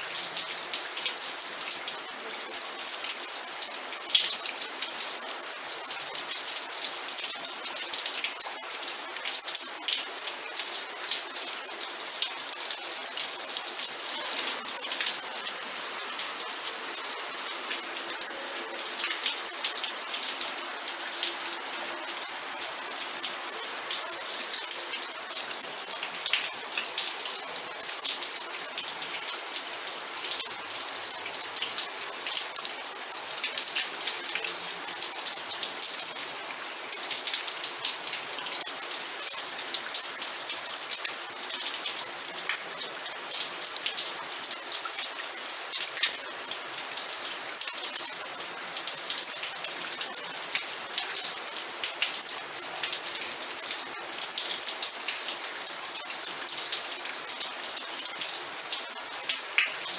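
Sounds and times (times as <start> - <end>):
rain pattering on hard surface: 0.0 - 59.9.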